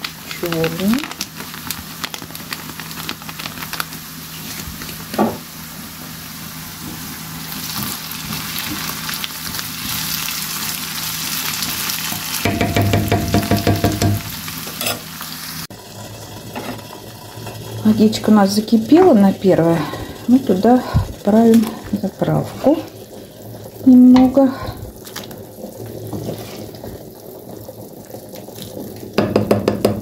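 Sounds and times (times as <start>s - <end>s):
vegetables sizzling in frying pan: 0.0s - 30.0s.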